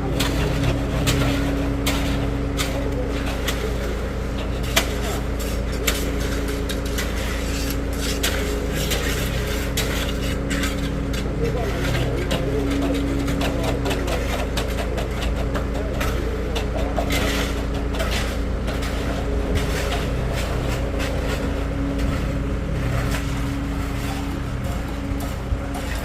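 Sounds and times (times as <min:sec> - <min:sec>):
engine running: 0:00.0 - 0:26.0
scrapes and knocks: 0:00.0 - 0:26.0.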